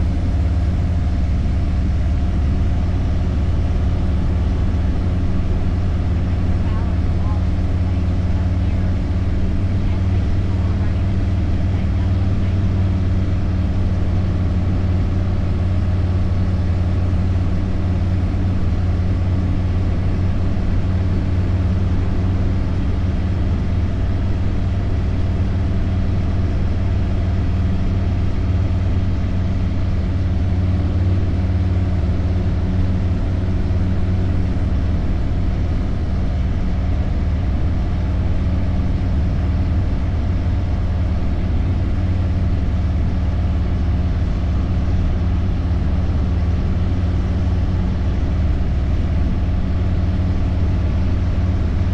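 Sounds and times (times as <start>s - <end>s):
road noise: 0.0s - 51.9s.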